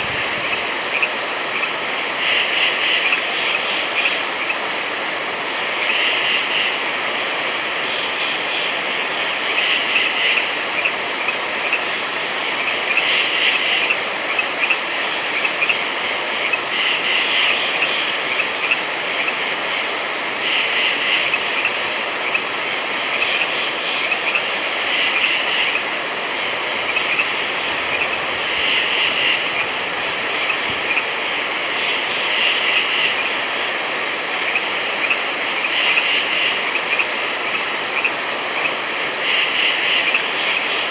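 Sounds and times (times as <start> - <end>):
dense background hiss: 0.0 - 40.9
frogs calling: 0.0 - 40.9.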